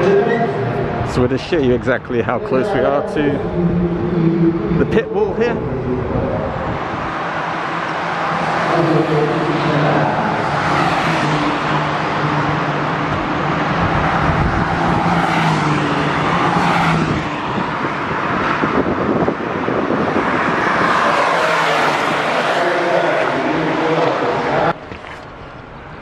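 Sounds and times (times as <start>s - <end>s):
race cars passing at speed: 0.0s - 26.0s.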